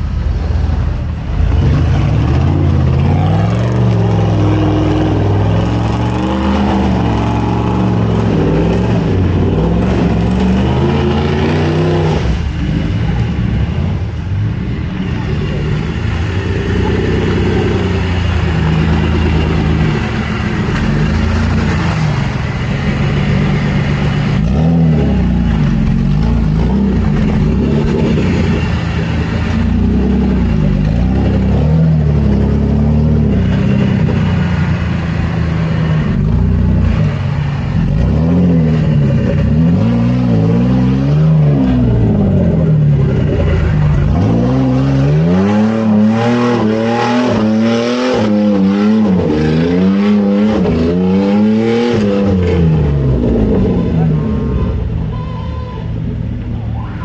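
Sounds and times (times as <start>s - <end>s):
off-road engine revving: 0.0s - 57.0s.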